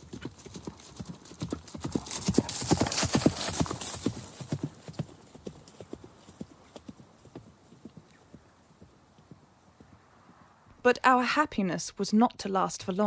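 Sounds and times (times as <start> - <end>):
horse hooves clip-clopping: 0.0 - 10.8.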